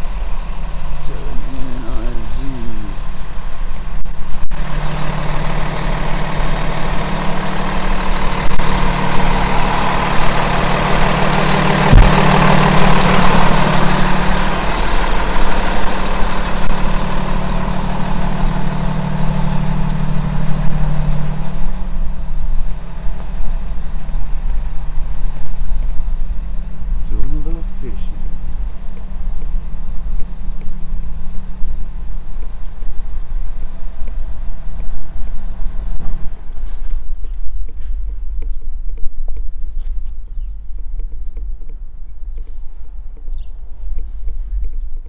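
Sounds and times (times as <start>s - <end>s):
vehicle engine idling hum: 0.0s - 45.0s.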